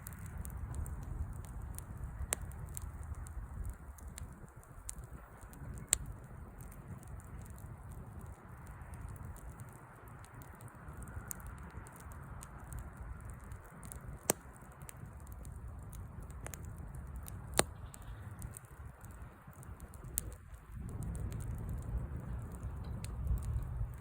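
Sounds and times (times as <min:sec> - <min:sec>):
low rumble of fire: 0:00.0 - 0:24.0
sharp pops of fire: 0:00.0 - 0:24.0
wood fire crackling: 0:00.0 - 0:24.0.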